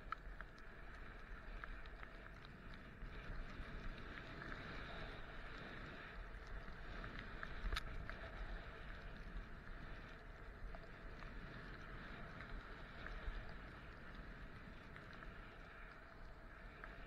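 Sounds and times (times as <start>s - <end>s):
skis sliding over snow: 0.0s - 17.0s
wind rumble on microphone: 0.0s - 17.0s.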